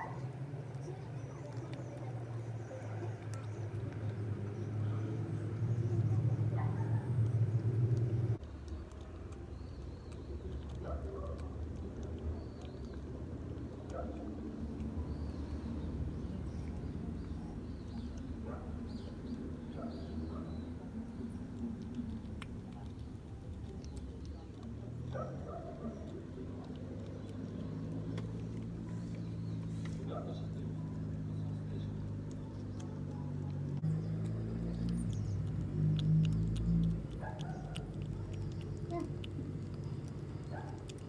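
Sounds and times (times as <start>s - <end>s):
kitten licking: 0.0s - 41.0s
low outdoor rumble: 0.0s - 41.0s
low steady hum: 0.0s - 41.0s
small birds chirping: 0.0s - 41.0s.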